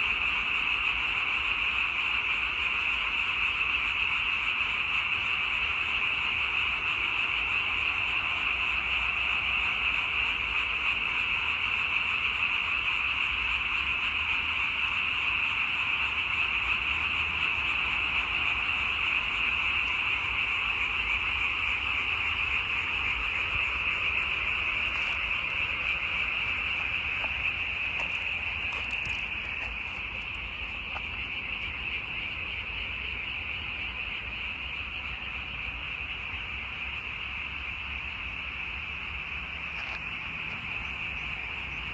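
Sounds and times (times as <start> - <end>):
chorus of frogs calling: 0.0 - 41.9.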